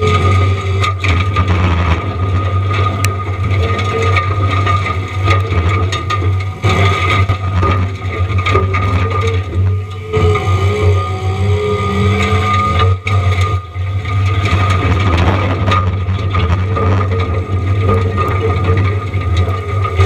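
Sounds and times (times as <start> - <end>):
diesel engine under load: 0.0 - 20.0
mulching head whine: 0.0 - 20.0
wood crackling and snapping: 0.0 - 20.0.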